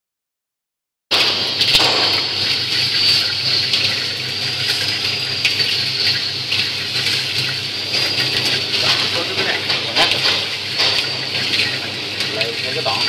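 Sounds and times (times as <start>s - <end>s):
popcorn tumbling in metal drum: 1.1s - 13.0s.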